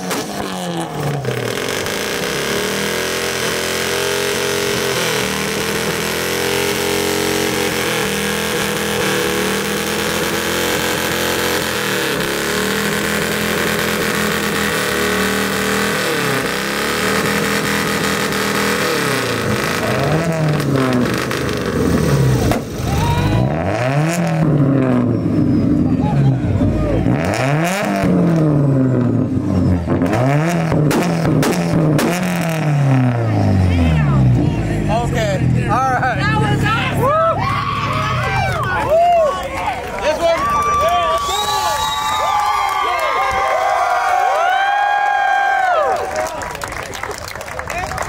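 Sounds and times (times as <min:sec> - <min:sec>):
car engine revving: 0:00.0 - 0:38.6.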